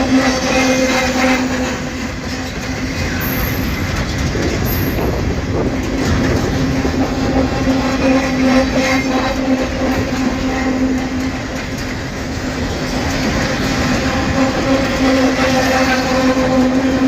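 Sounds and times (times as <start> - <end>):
train wheels clattering over rail joints: 0.0 - 17.0.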